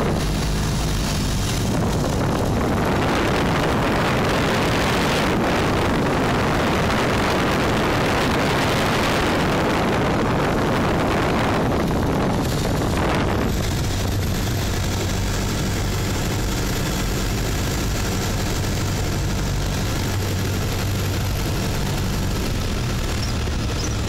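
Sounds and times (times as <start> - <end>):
air noise: 0.0 - 24.0
light aircraft engine hum: 0.0 - 24.0.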